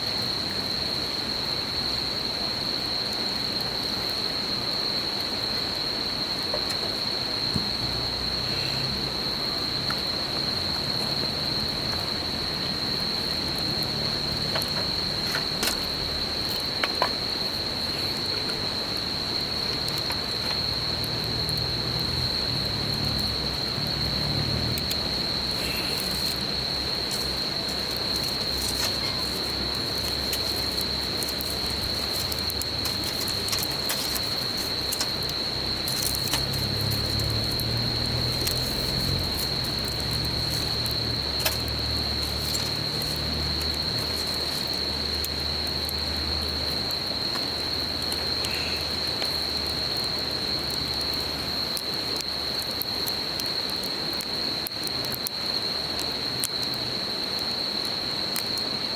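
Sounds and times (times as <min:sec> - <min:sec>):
campfire crackling and popping: 0:00.0 - 0:58.8
insects trilling: 0:00.0 - 0:58.9.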